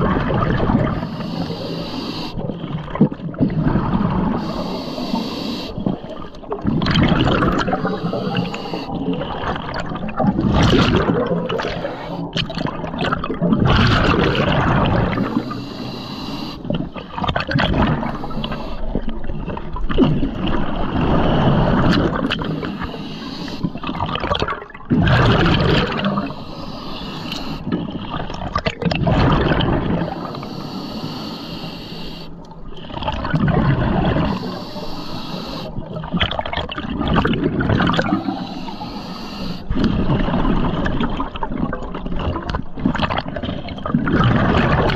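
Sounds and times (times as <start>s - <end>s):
underwater bubbling and gurgling: 0.0s - 44.9s.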